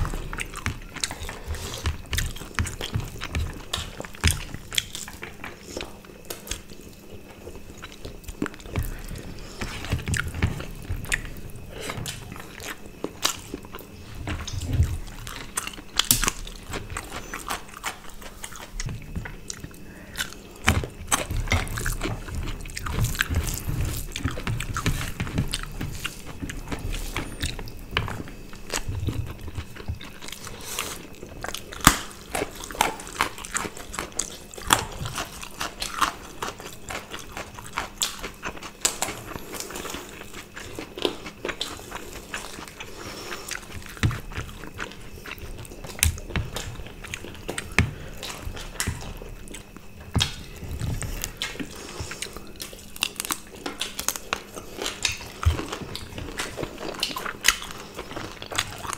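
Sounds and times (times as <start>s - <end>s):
people chewing food: 0.0s - 58.9s.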